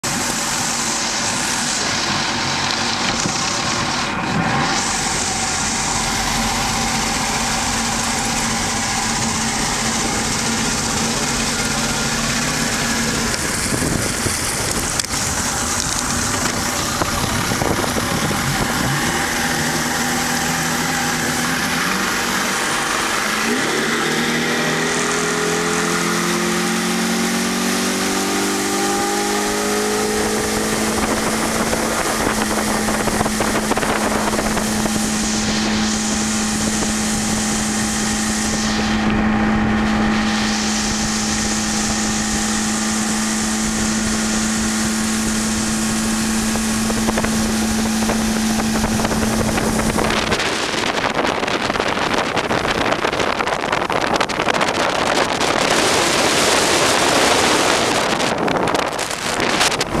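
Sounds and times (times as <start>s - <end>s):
outboard motor running: 0.0s - 60.0s
water noise: 0.0s - 60.0s
wind noise: 0.0s - 60.0s.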